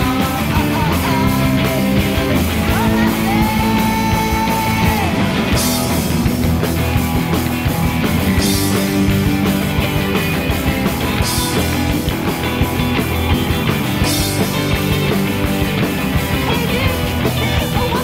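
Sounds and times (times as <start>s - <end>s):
rock band with electric guitar: 0.0s - 18.0s.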